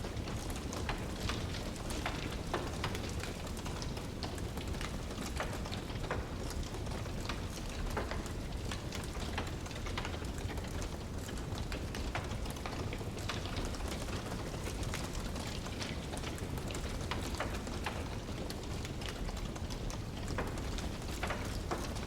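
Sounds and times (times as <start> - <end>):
fire crackles and pops: 0.0 - 22.0
wood burning in fireplace: 0.0 - 22.0.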